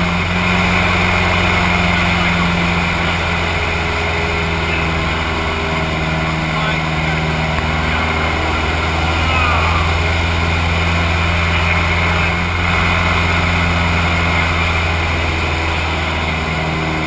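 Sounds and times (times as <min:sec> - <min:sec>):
airplane engine droning: 0:00.0 - 0:17.0.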